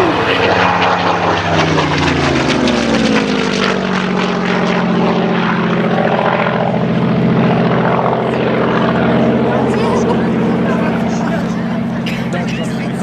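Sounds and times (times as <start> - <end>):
propeller plane passing overhead: 0.0 - 13.0.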